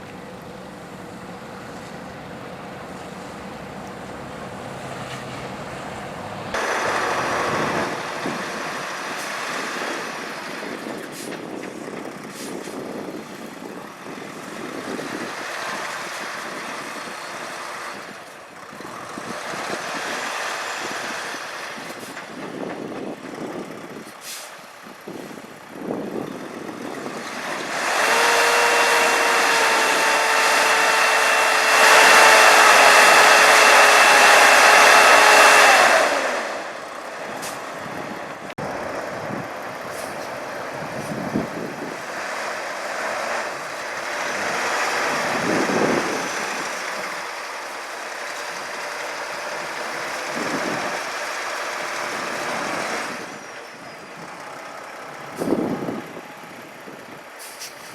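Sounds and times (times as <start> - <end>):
road and engine noise: 0.0 - 57.9.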